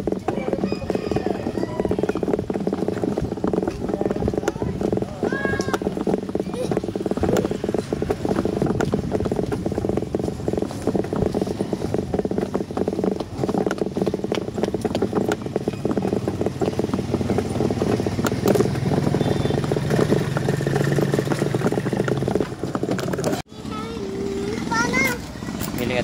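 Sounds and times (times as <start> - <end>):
motorcycle engine humming: 0.0 - 26.0
rattling and rolling over concrete: 0.0 - 26.0.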